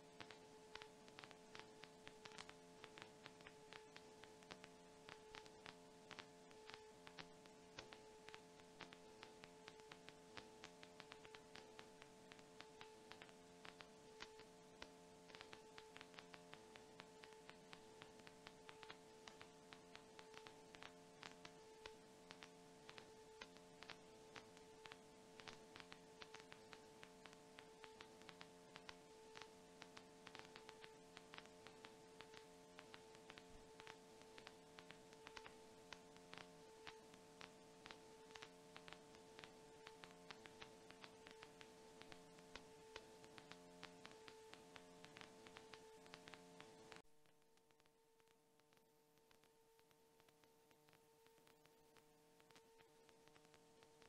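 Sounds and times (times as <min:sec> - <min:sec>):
faint clicks: 0:00.0 - 0:54.0
faint steady hum: 0:00.0 - 0:54.0.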